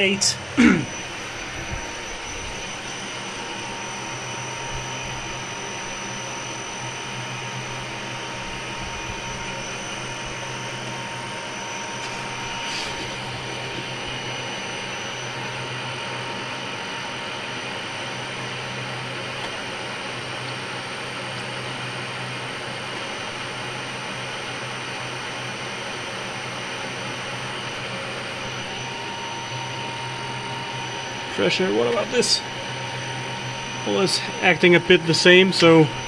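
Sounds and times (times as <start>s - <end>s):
milling machine humming: 0.0s - 36.0s.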